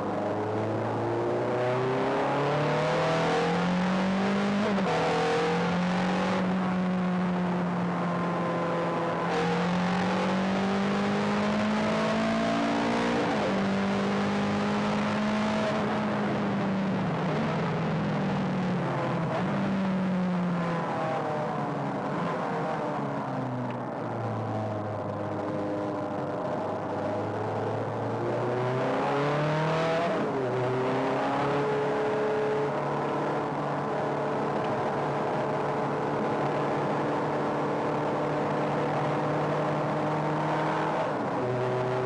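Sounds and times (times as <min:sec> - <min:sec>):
sports car engine from inside cabin: 0:00.0 - 0:42.0.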